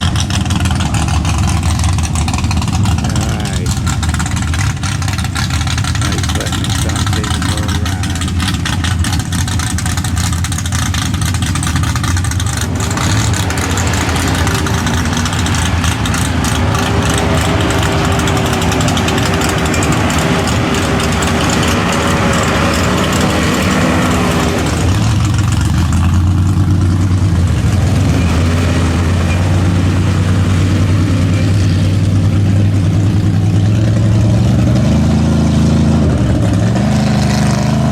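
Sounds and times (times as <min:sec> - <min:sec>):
truck engine revving: 0:00.0 - 0:37.9.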